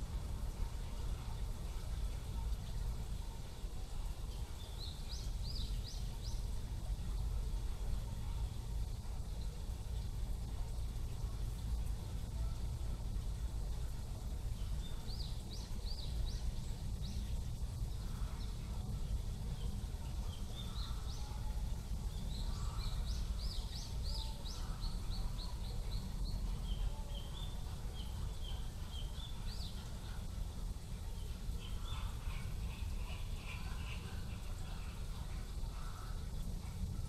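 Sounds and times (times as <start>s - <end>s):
low background rumble: 0.0s - 37.0s
songbirds chirping: 0.0s - 37.0s.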